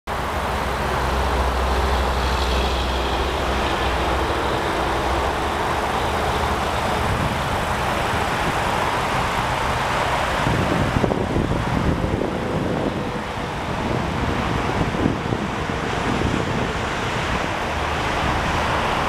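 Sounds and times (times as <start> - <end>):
traffic rumble: 0.1 - 19.0.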